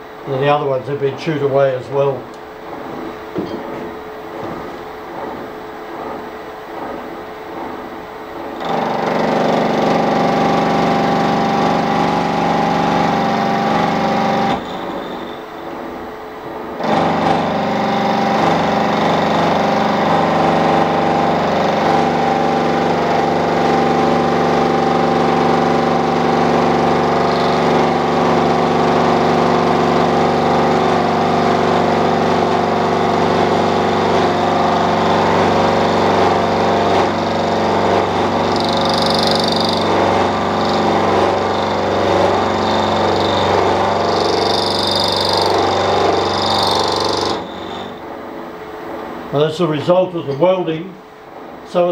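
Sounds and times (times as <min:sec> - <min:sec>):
milling machine whine: 0:00.0 - 0:51.9.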